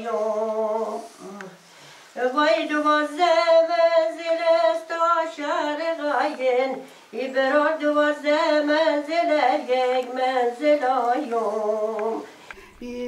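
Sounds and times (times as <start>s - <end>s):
woman singing unaccompanied: 0.0s - 1.6s, 2.2s - 13.0s.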